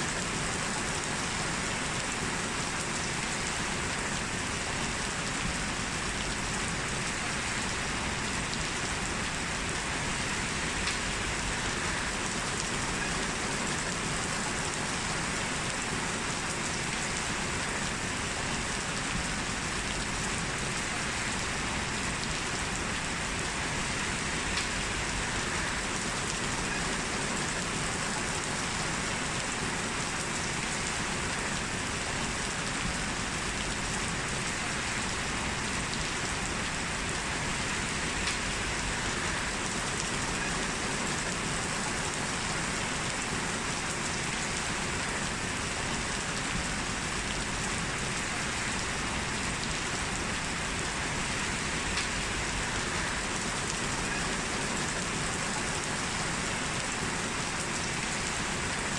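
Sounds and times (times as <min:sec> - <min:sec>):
heavy rain on a street: 0:00.0 - 0:58.9.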